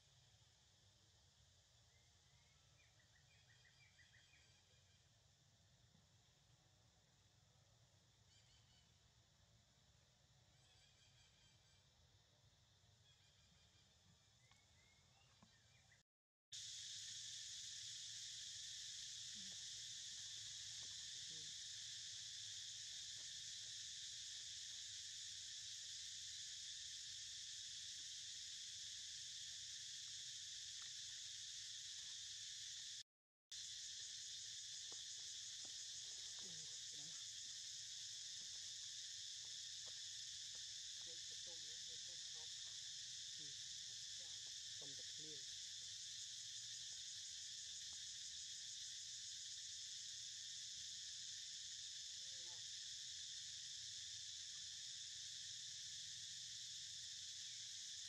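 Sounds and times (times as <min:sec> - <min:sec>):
high-pitched insect chorus: 0:00.0 - 0:16.0, 0:16.6 - 0:58.0.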